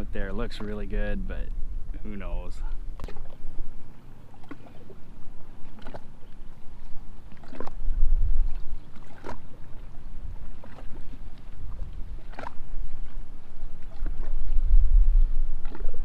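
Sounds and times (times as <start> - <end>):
waves lapping against hull: 0.0 - 16.0
wind rumble on microphone: 0.0 - 16.0.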